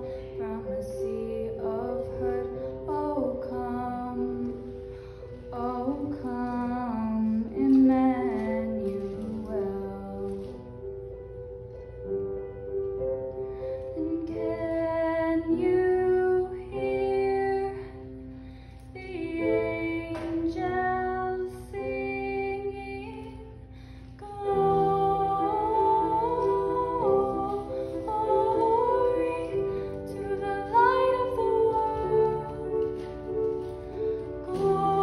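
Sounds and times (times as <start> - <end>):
woman singing slow song: 0.0 - 10.8, 14.0 - 35.0
piano accompaniment: 0.0 - 35.0.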